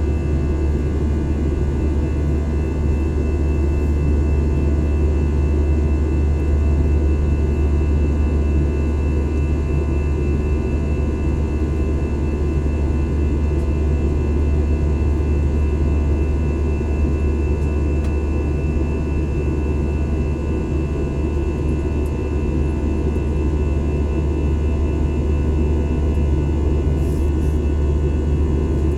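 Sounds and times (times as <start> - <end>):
jet engine drone in cabin: 0.0 - 28.9.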